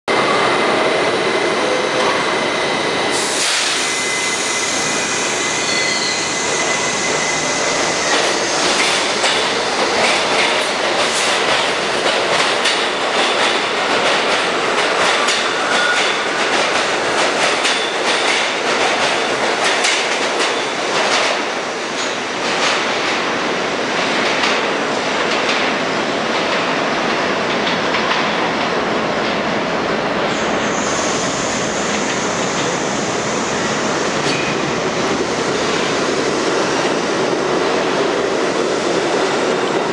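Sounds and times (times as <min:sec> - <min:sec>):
subway train thin whine: 0:00.1 - 0:39.9.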